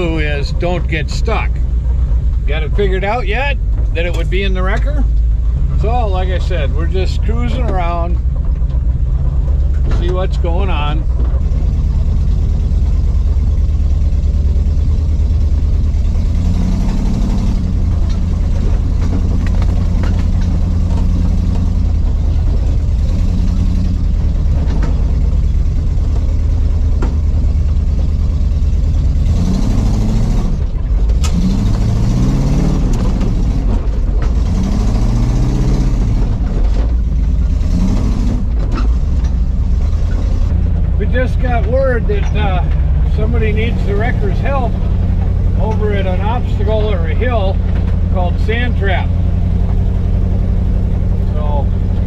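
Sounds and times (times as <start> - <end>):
truck engine rumbling and revving: 0.0 - 52.0.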